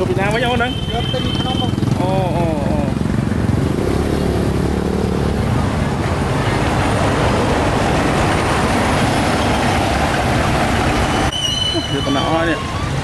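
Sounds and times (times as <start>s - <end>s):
tyre and road noise: 0.0s - 13.0s.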